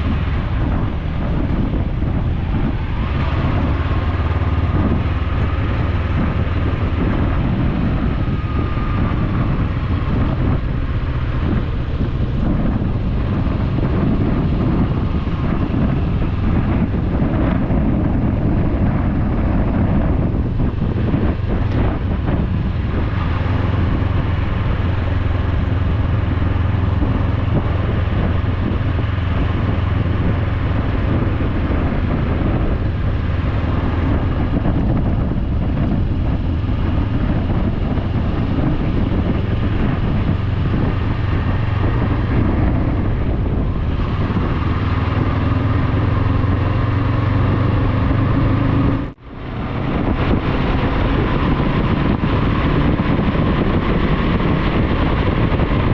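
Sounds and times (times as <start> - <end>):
motorcycle engine hum: 0.0 - 55.9
wind on microphone: 0.0 - 55.9.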